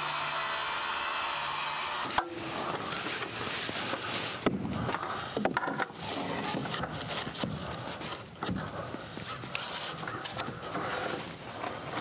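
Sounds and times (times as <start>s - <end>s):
wooden boards rubbing and scraping: 2.1s - 12.0s.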